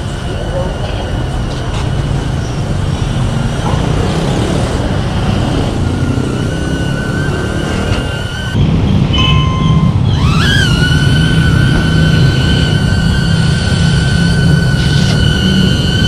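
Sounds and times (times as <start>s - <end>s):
thin steady whine: 0.0s - 16.0s
traffic rumble: 0.0s - 16.0s.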